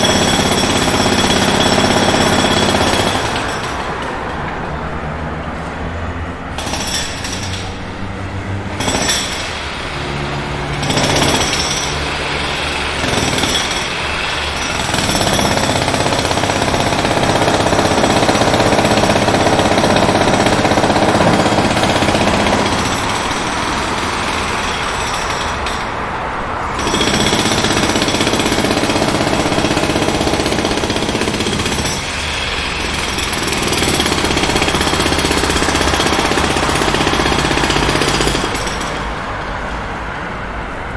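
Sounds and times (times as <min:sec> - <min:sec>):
jackhammer hammering: 0:00.0 - 0:05.0, 0:05.6 - 0:39.7.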